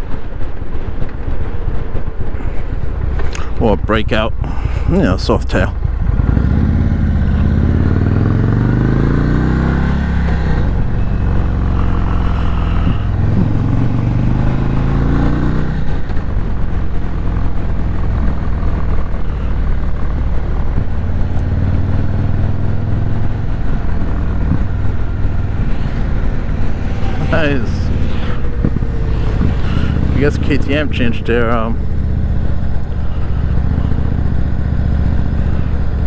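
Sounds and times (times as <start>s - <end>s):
motorcycle engine accelerating: 5.0s - 36.0s.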